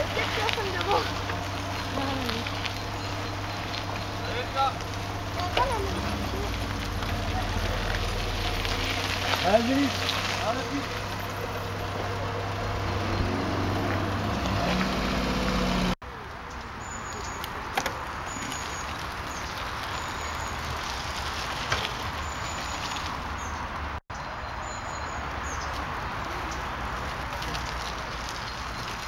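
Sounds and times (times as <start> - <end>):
low vehicle hum: 0.0 - 24.0.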